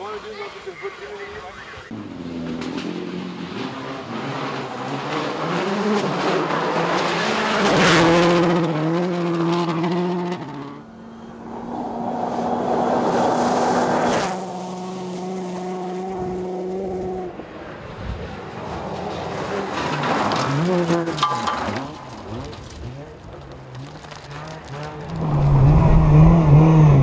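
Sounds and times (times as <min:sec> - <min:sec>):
rally car engine revving: 0:01.9 - 0:10.8, 0:11.6 - 0:17.4, 0:18.2 - 0:27.0.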